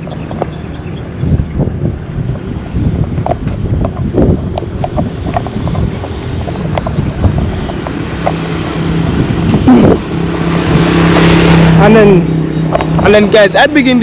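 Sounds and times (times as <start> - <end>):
street traffic: 0.0 - 14.0
vehicle engine hum: 0.0 - 14.0
wind buffeting microphone: 0.0 - 14.0.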